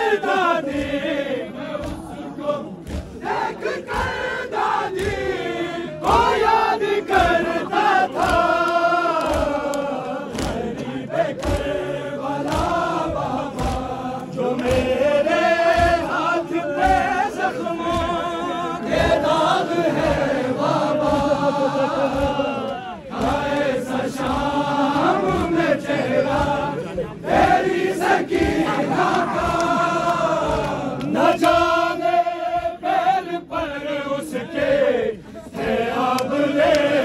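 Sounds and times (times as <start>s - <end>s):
crowd of men chanting: 0.0s - 37.0s.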